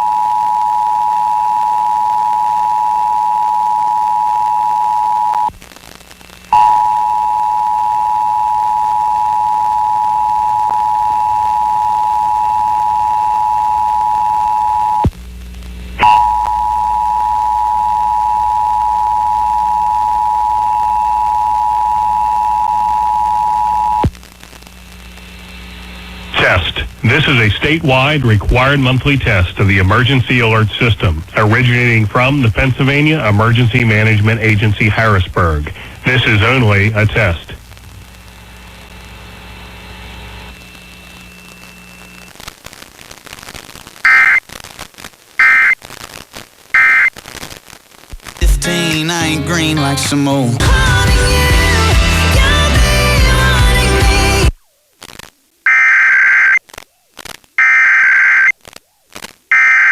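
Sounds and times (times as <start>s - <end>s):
radio static: 0.0s - 59.9s.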